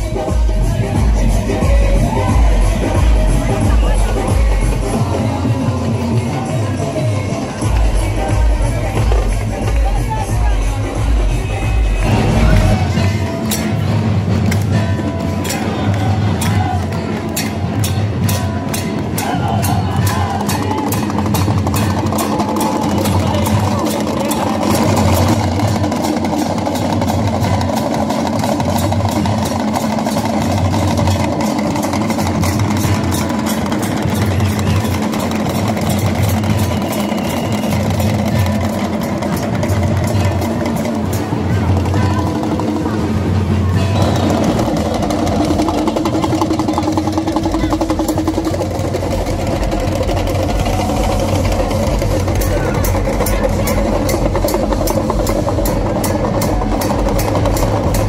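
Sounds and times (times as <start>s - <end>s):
crowd: 0.0s - 58.0s
hand drums beating: 0.0s - 58.0s.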